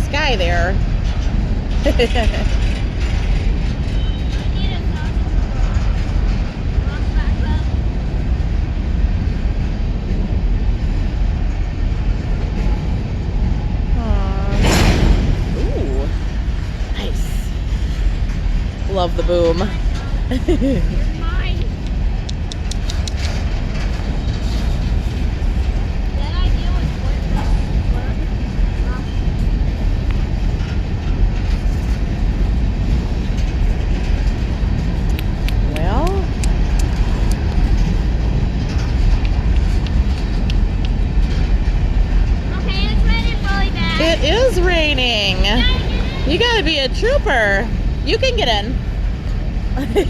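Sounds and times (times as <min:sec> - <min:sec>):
train cars rolling past rumbling: 0:00.0 - 0:50.0.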